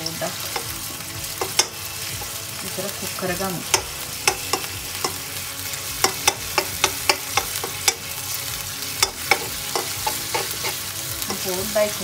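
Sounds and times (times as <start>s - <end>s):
shrimp sizzling in oil: 0.0s - 12.0s
spatula scraping a wok: 0.2s - 12.0s.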